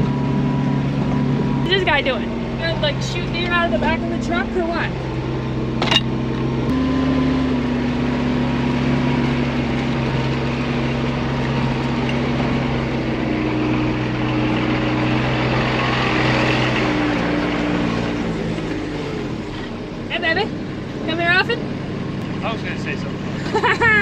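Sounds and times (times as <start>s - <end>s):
tractor diesel engine drone: 0.0s - 24.0s.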